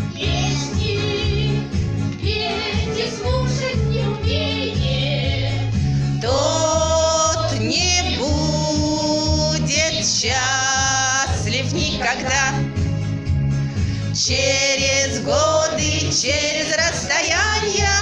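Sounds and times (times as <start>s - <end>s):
backing track bass beat: 0.0s - 18.0s
women's group singing: 0.1s - 12.7s, 14.2s - 18.0s.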